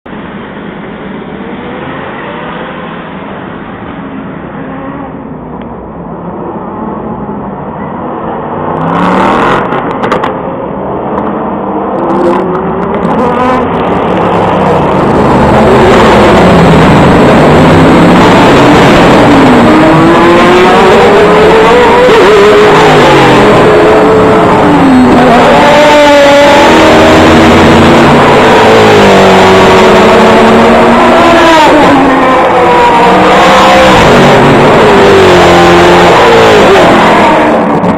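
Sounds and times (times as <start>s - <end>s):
racing car engines passing: 0.1s - 37.9s.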